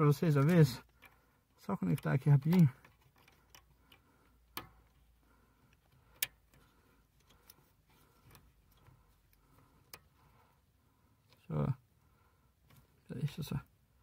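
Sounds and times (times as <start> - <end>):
faint light ticking: 0.2 - 14.0.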